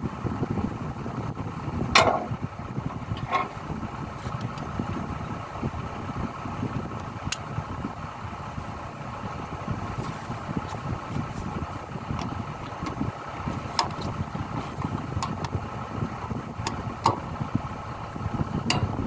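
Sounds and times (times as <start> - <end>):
excavator diesel engine idling: 0.0 - 19.0.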